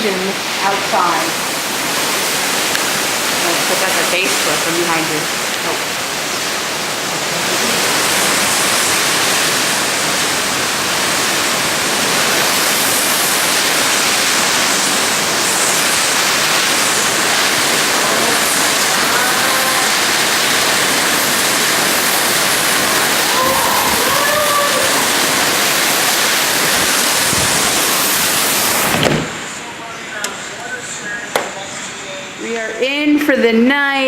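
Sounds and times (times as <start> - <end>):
wind roaring: 0.0 - 29.7
heavy rain: 0.0 - 34.0.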